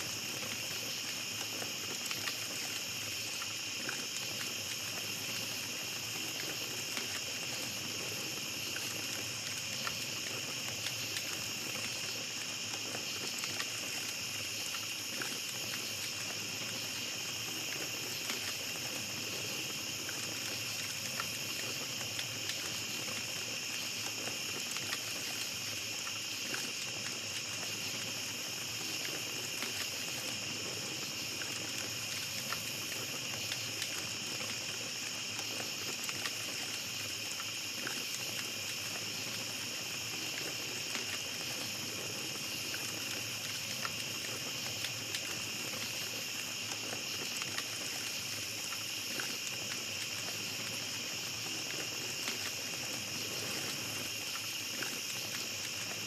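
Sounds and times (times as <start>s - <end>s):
campfire crackling: 0.0s - 56.0s
night insects chorus: 0.0s - 56.0s.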